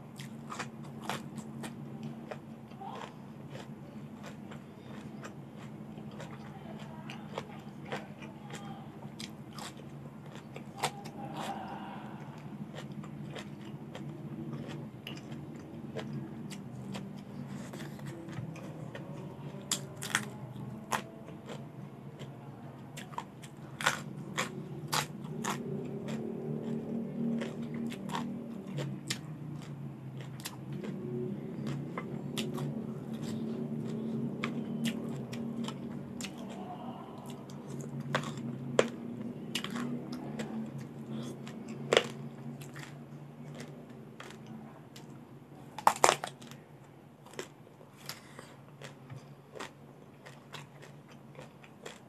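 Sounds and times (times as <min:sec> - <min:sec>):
crunching raw vegetables: 0:00.0 - 0:46.6, 0:47.2 - 0:52.0
soft mouth sounds: 0:00.1 - 0:46.6.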